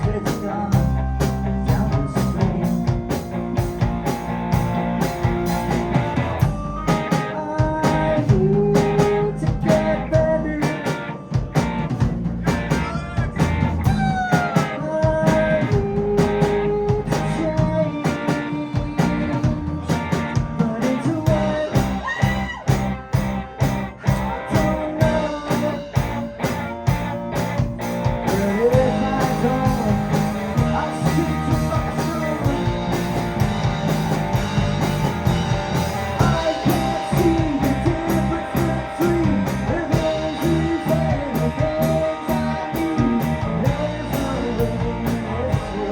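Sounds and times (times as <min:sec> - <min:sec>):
bass: 0:00.0 - 0:45.9
drums: 0:00.0 - 0:45.9
keyboards: 0:00.0 - 0:45.9.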